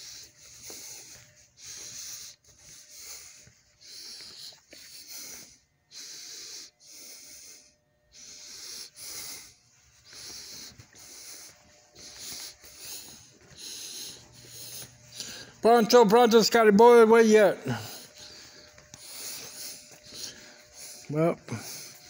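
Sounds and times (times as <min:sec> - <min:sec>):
man breathing hard: 0:00.0 - 0:22.0.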